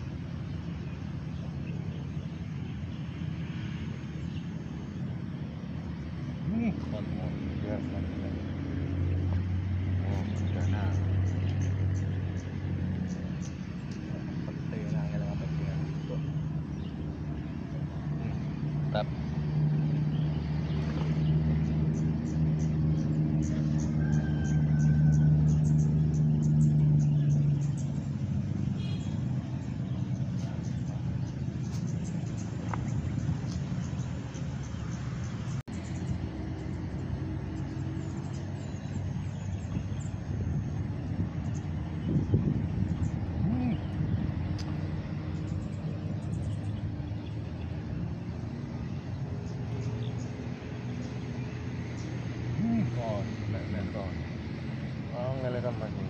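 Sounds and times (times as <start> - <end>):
low rushing background: 0.0 - 56.0
motor engine humming: 0.0 - 56.0.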